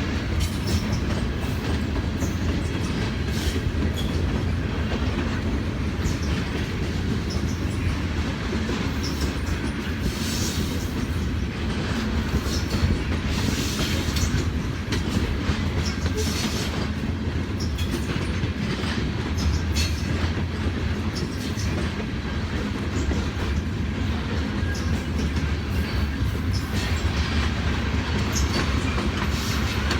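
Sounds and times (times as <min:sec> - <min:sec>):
freight train rumbling past: 0:00.0 - 0:29.9
wheels clicking over rail joints: 0:00.0 - 0:29.9.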